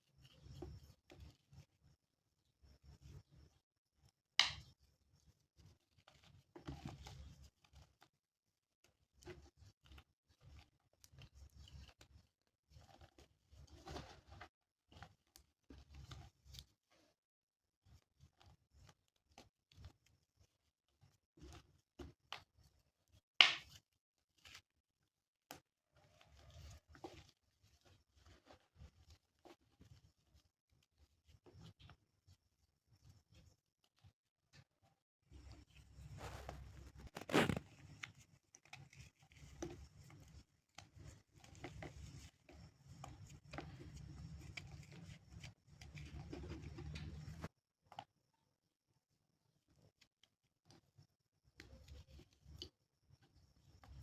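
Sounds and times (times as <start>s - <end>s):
clay crackling and crumbling: 0.0s - 54.0s.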